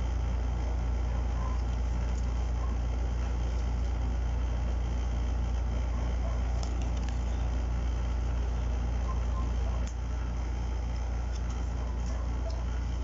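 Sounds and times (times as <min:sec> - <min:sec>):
low-pitched hum: 0:00.0 - 0:13.0.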